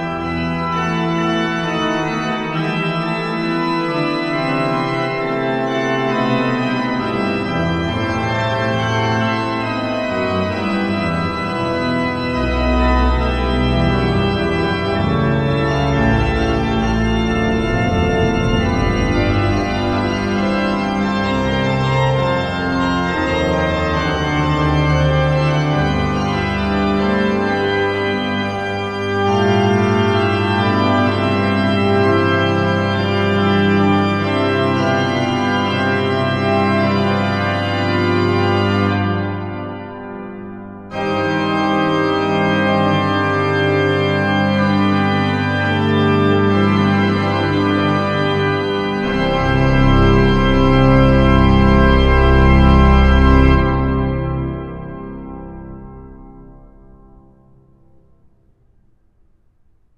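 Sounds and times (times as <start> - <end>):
pipe organ music: 0.0 - 58.2.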